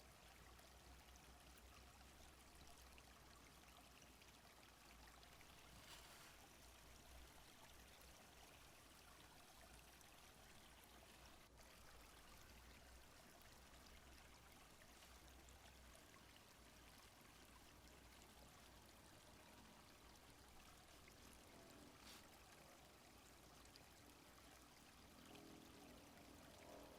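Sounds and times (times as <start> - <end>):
small stream flowing: 0.0 - 26.9.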